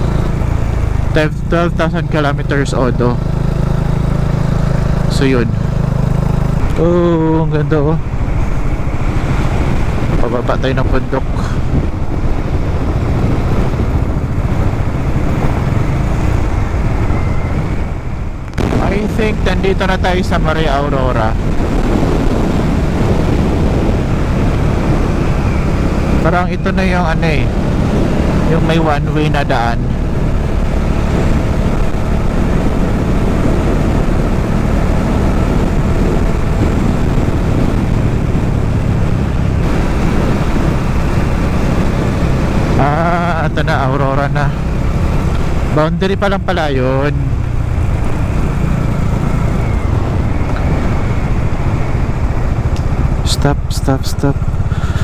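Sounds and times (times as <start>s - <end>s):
motorcycle engine: 0.0s - 55.0s
wind rush on microphone: 0.0s - 55.0s.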